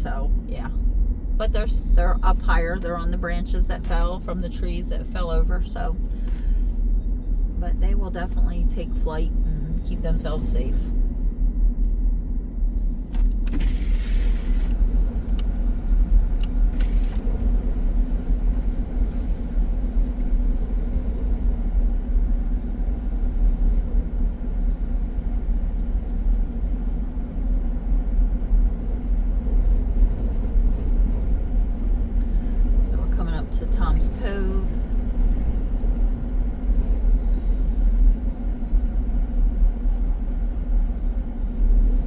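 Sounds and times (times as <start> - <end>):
car engine and tyre drone: 0.0 - 42.0.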